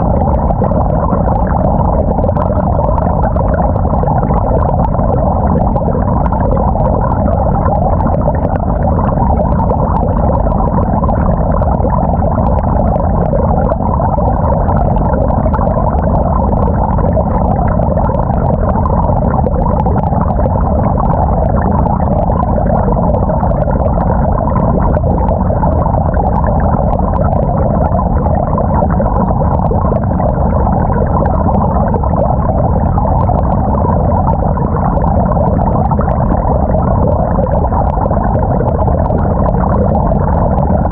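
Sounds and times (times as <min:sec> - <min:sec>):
muffled washing machine churning: 0:00.0 - 0:40.9.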